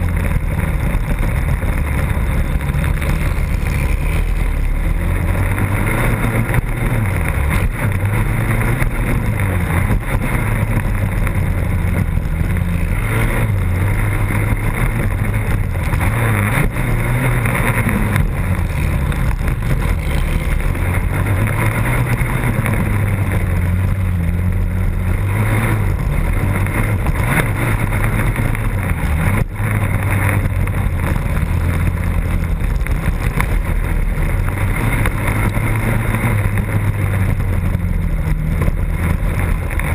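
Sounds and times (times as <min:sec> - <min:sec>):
racing quad engine revving: 0:00.0 - 0:39.9.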